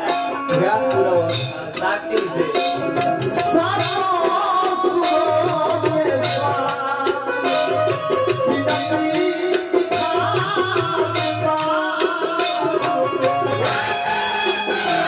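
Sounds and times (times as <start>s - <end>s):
man singing into microphone: 0.0s - 15.0s
rhythmic percussion: 0.0s - 15.0s.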